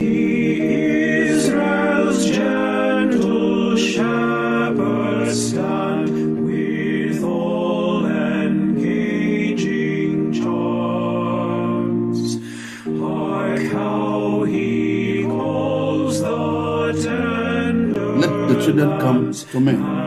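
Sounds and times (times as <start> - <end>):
chant-like singing voices: 0.0 - 20.0
slow intro music: 0.0 - 20.0.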